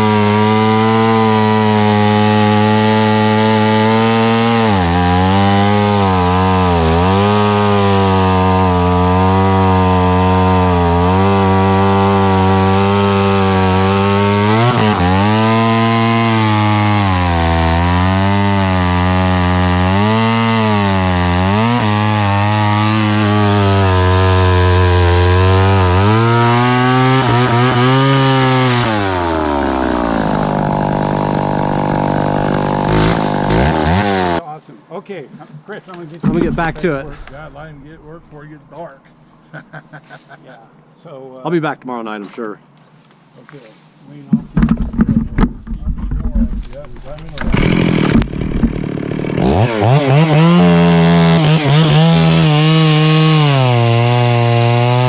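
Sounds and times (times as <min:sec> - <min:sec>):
chainsaw cutting through wood: 0:00.0 - 0:34.4, 0:36.3 - 0:38.9, 0:44.5 - 0:55.0.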